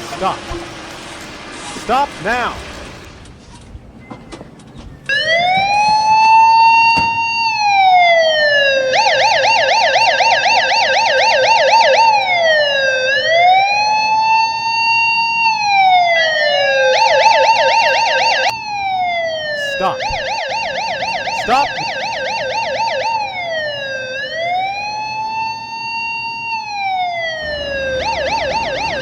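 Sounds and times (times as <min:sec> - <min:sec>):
electronic police siren: 0:05.0 - 0:29.0.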